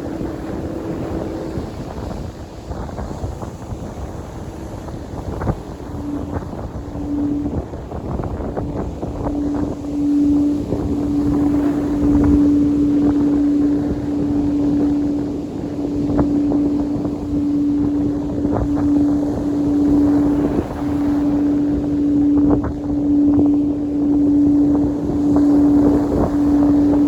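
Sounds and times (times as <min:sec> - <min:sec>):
singing bowl tone: 0:00.0 - 0:27.0
wind noise on microphone: 0:00.0 - 0:27.0.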